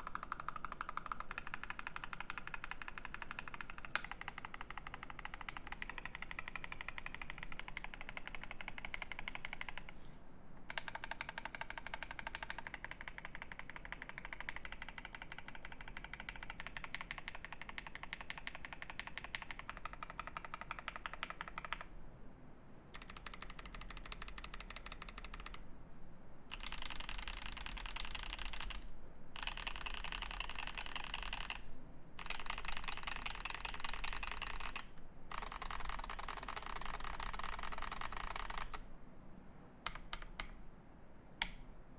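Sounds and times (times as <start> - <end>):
mechanical keyboard typing: 0.0 - 10.0, 10.7 - 21.9, 22.9 - 25.6, 26.5 - 38.8, 39.8 - 40.6.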